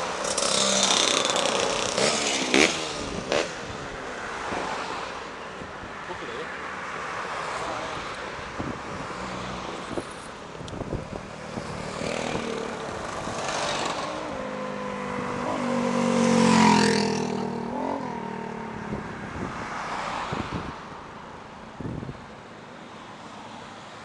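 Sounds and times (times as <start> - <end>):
scooters and cars passing by: 0.0 - 24.0.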